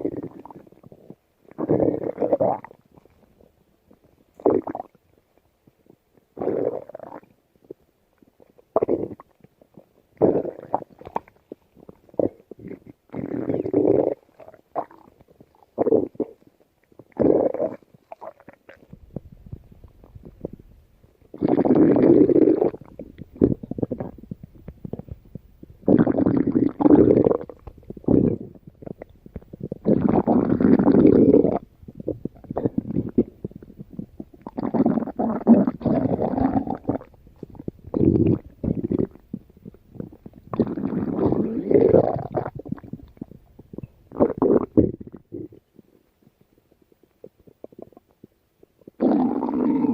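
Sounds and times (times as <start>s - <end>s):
stomach growling and gurgling: 0.0s - 49.9s.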